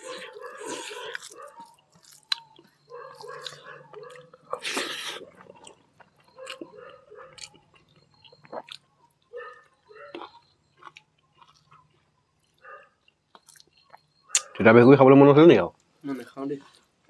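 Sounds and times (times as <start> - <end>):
person chewing food: 0.0 - 14.6, 15.8 - 17.0.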